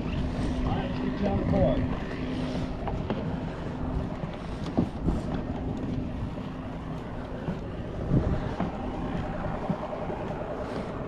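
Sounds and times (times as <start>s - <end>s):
engine running: 0.0s - 11.0s
wind buffeting microphone: 0.0s - 11.0s.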